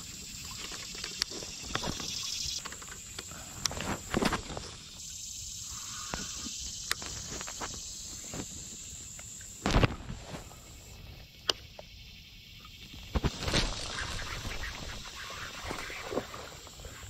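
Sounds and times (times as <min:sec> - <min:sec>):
insects hissing: 0:00.0 - 0:17.0.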